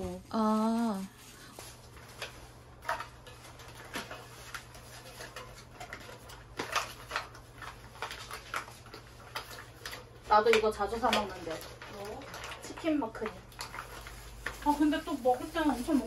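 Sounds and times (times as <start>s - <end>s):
food packets crinkling: 0.4s - 16.0s.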